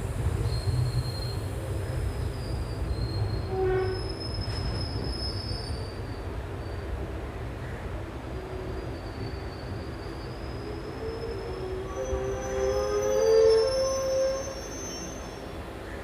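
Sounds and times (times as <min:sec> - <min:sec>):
train low rumble: 0:00.0 - 0:16.0
high-pitched wheel squeals: 0:00.4 - 0:01.5, 0:02.2 - 0:06.9, 0:08.7 - 0:15.6.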